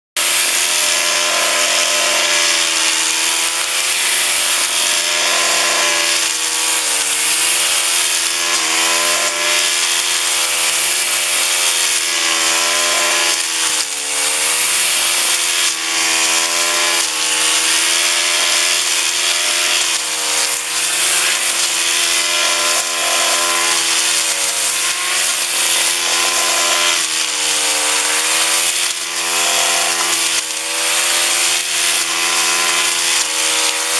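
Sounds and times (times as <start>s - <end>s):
blade cutting grass: 0.2s - 33.9s
brushcutter engine at high revs: 0.2s - 33.9s.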